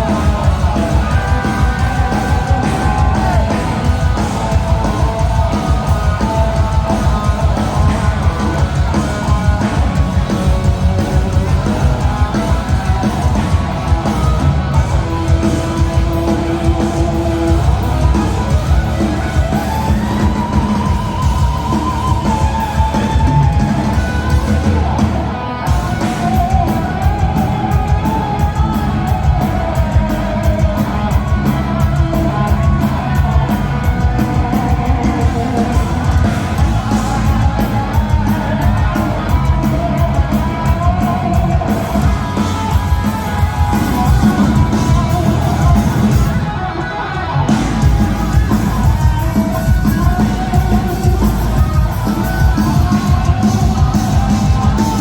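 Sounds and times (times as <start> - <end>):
lead electric guitar melody: 0.0 - 55.0
live heavy metal band: 0.0 - 55.0.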